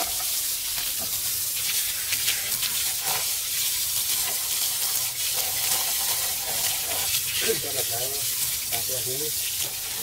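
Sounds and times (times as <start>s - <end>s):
hose water spraying: 0.0s - 10.0s
water splashing: 0.0s - 10.0s.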